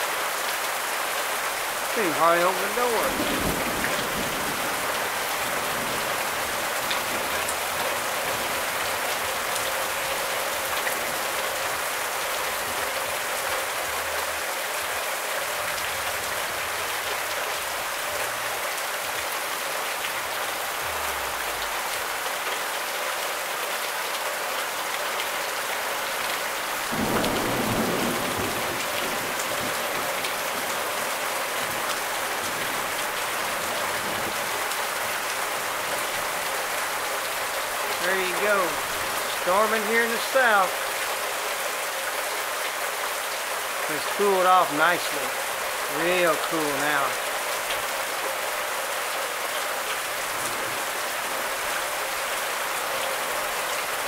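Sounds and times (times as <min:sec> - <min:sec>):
heavy rain on trees: 0:00.0 - 0:54.0.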